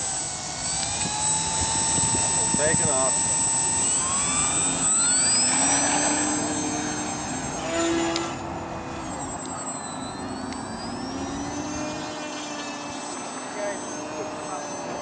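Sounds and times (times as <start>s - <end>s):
model plane electric motor whining: 0.0s - 15.0s.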